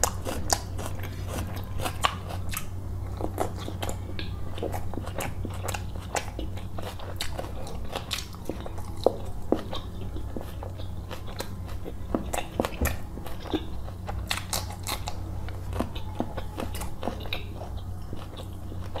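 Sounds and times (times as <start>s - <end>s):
person chewing food: 0.0s - 19.0s
steady low hum: 0.0s - 19.0s.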